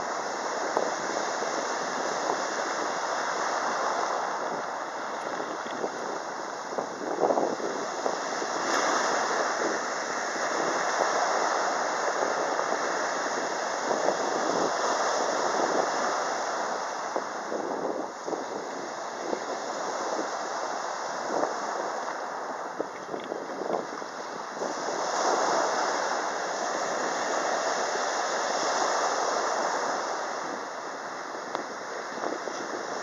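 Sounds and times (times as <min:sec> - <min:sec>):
waves breaking on beach: 0:00.0 - 0:33.0
wind buffeting microphone: 0:00.0 - 0:33.0.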